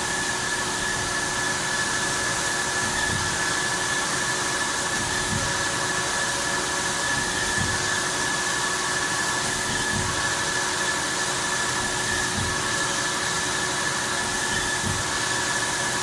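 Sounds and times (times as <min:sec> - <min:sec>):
machining center whirring: 0:00.0 - 0:16.0.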